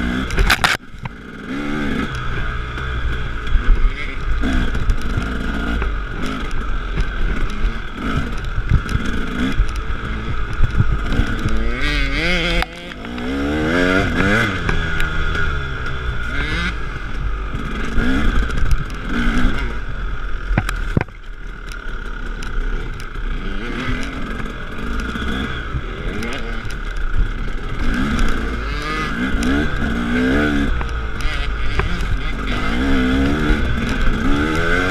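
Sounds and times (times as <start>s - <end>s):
bike knocking and rattling: 0.0s - 34.9s
dirt bike engine revving: 0.0s - 34.9s.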